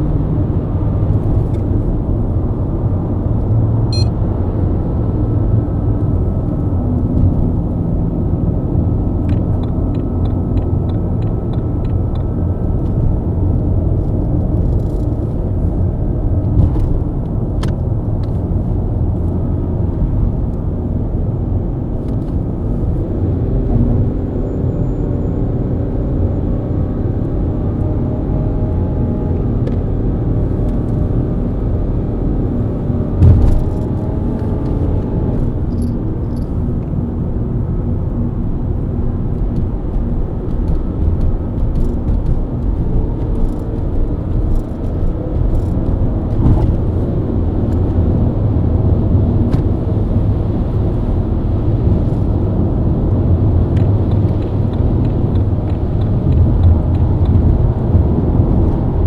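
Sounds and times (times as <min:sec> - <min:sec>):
car engine at speed: 0:00.0 - 0:59.0
road and tyre rumble: 0:00.0 - 0:59.0.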